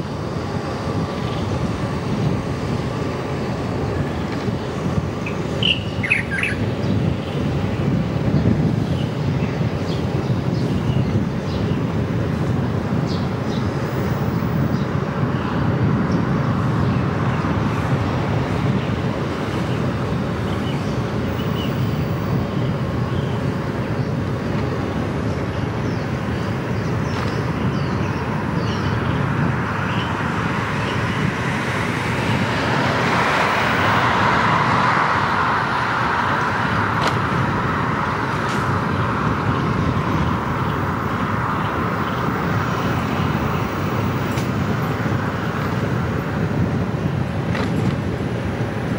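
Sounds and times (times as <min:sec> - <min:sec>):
vehicle road noise: 0:00.0 - 0:48.9.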